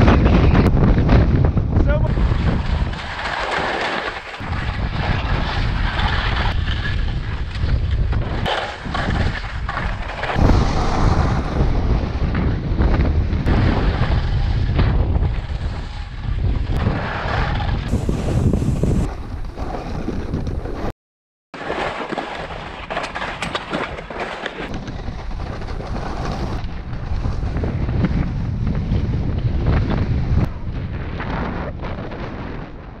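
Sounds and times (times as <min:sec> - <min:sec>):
wind buffeting microphone: 0:00.0 - 0:03.8, 0:04.4 - 0:20.9, 0:24.6 - 0:33.0
skis scraping over snow: 0:01.9 - 0:20.9, 0:21.6 - 0:30.5.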